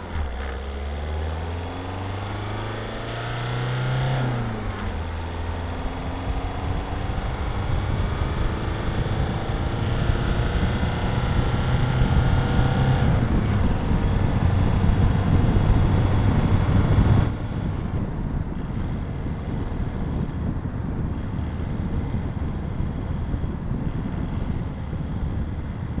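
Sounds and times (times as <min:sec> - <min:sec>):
diesel car engine accelerating: 0:00.0 - 0:26.0.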